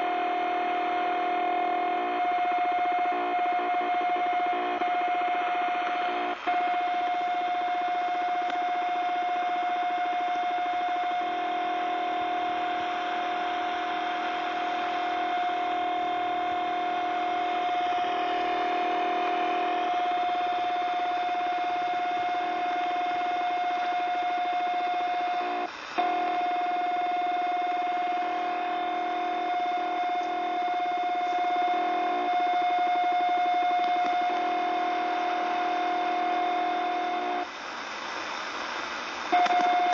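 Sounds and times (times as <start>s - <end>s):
low buzzing tone: 0.0s - 37.5s
radio steady tone: 0.0s - 39.9s
static hiss: 0.0s - 39.9s.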